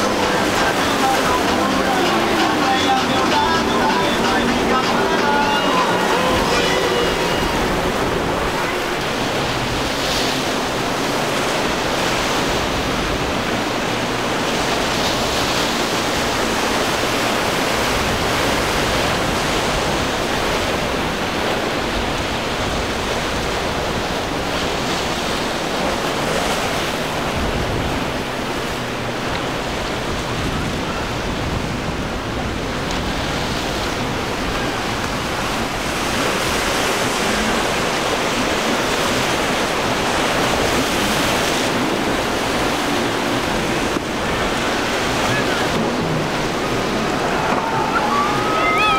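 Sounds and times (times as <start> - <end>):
waves breaking: 0.0 - 48.9
wind buffeting microphone: 5.9 - 48.9.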